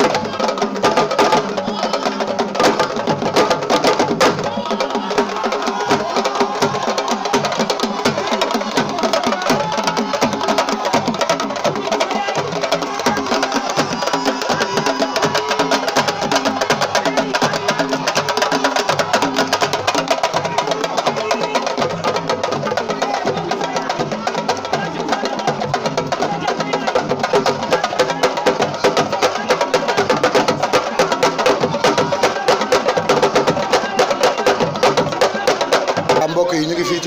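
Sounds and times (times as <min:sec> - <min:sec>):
hand drum rhythm: 0:00.0 - 0:37.0.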